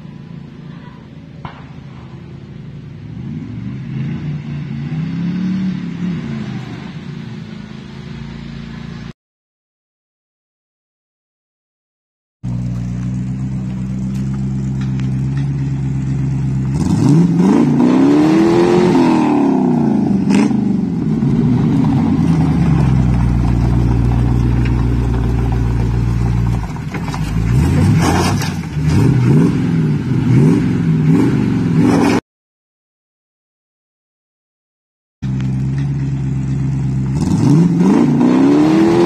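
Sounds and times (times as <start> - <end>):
pickup engine idling and revving: 0.0 - 9.1, 12.4 - 32.2, 35.2 - 39.0.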